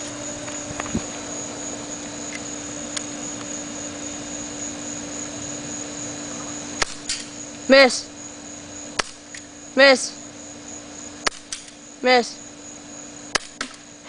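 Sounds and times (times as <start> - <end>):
high insect trill: 0.0 - 14.0
low steady hum: 0.0 - 14.0.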